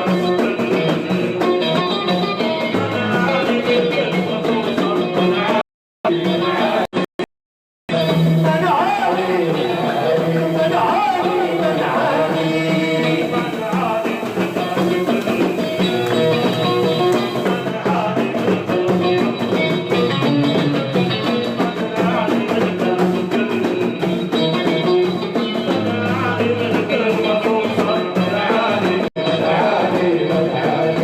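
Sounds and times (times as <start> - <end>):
live band music: 0.0 - 7.0, 7.9 - 31.0.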